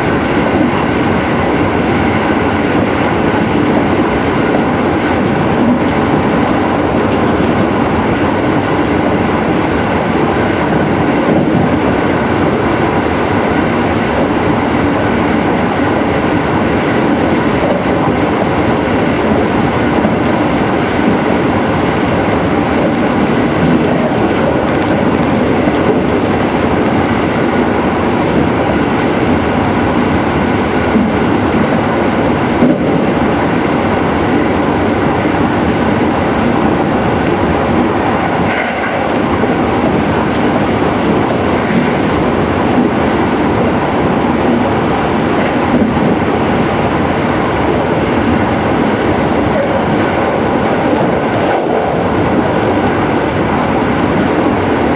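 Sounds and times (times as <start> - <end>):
rumble of wheels on rails: 0.0 - 54.9.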